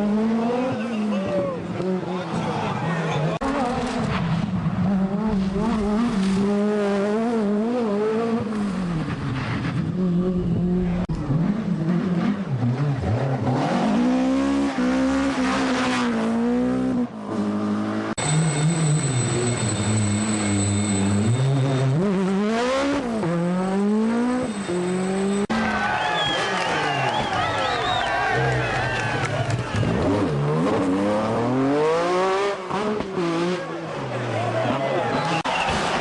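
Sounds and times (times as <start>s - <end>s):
rally car engines revving hard: 0.0s - 36.0s.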